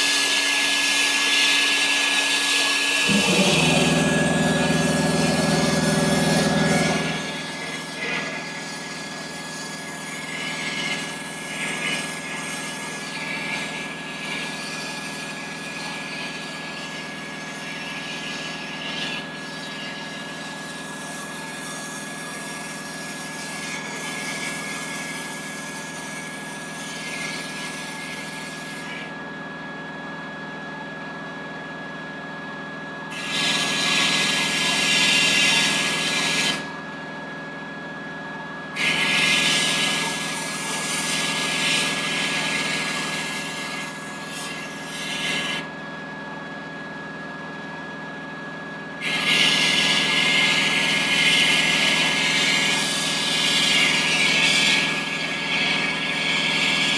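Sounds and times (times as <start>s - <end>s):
power tool motor running: 0.0s - 29.1s, 33.1s - 36.8s, 38.7s - 45.8s, 49.0s - 56.9s.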